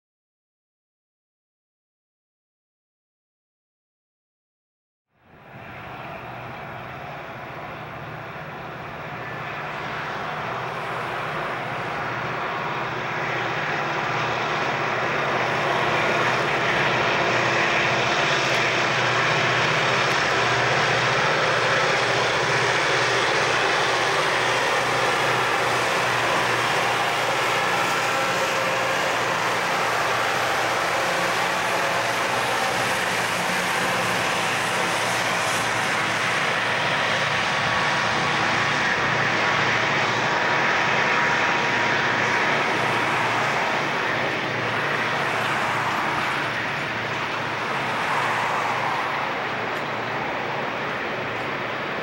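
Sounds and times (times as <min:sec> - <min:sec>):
diesel locomotive engines droning: 0:05.1 - 0:52.0
train cars rolling by: 0:05.3 - 0:52.0.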